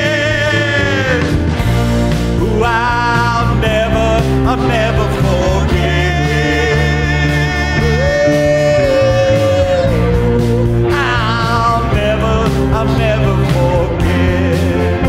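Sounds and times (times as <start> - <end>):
song with singing voice: 0.0 - 15.0.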